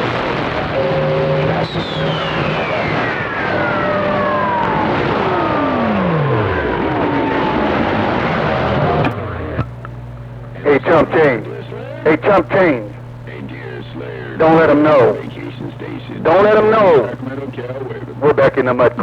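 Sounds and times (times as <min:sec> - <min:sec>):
radio receiver hiss: 0:00.0 - 0:19.0.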